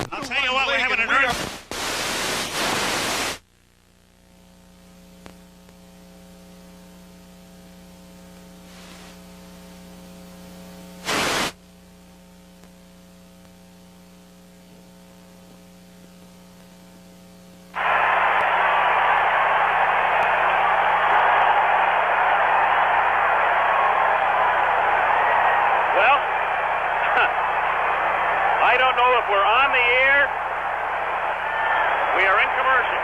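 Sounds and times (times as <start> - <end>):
electrical mains hum: 0.0 - 33.0
static hiss: 0.0 - 33.0.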